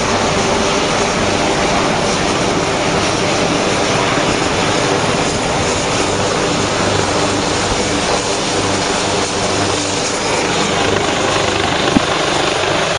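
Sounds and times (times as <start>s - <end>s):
helicopter engine and rotor: 0.0s - 12.9s.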